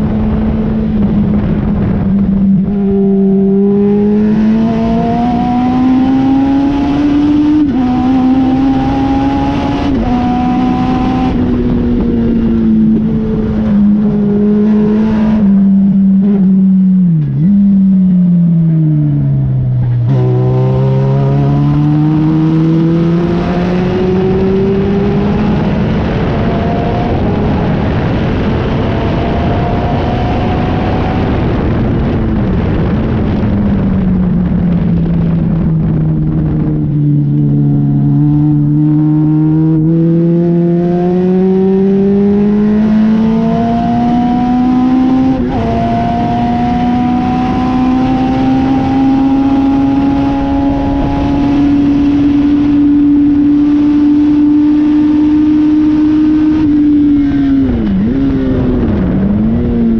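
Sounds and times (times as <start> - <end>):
race car engine revving: 0.0 - 18.6, 19.2 - 59.9
wind and road noise: 0.0 - 59.9.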